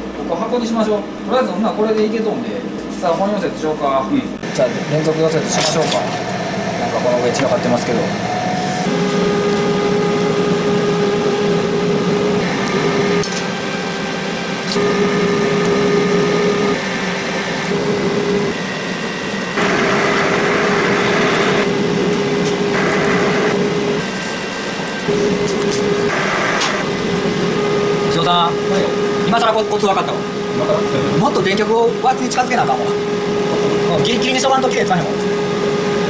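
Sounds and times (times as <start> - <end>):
welder electric buzz: 4.4 - 36.0.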